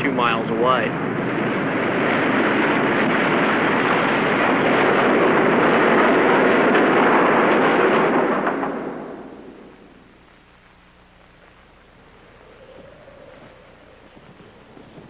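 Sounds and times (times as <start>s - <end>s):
wind roaring: 0.0s - 10.2s, 11.6s - 15.0s.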